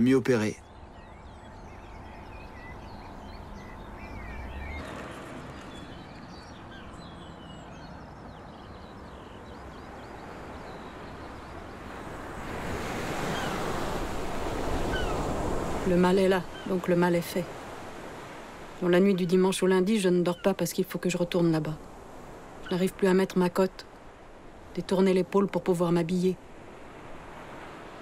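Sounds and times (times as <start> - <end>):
birds chirping: 0.0 - 28.0
sea waves breaking on a beach: 0.0 - 28.0.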